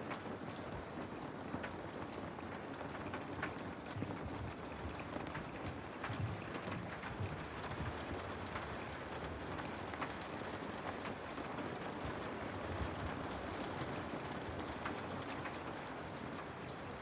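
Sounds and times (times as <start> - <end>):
rain falling: 0.0 - 17.0
raindrops tapping: 0.0 - 17.0.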